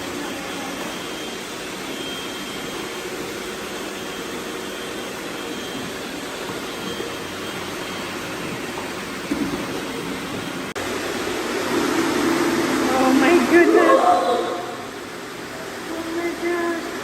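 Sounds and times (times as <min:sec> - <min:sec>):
robot vacuum cleaners running: 0:00.0 - 0:17.0.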